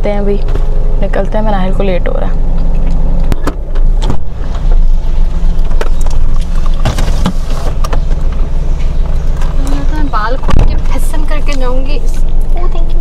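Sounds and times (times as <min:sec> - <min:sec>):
car engine idling: 0:00.0 - 0:13.0
objects handled in car: 0:01.8 - 0:12.9.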